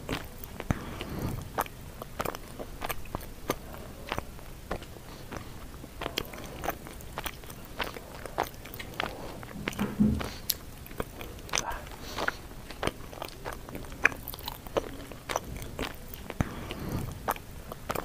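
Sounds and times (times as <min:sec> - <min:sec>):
person chewing with wet clicks: 0:00.0 - 0:18.0.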